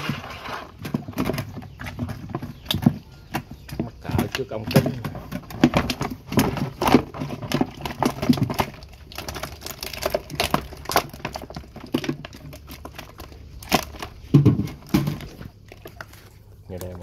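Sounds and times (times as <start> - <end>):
plastic knocking and rattling: 0.0 - 16.2
fish slapping against plastic tub: 0.0 - 17.0.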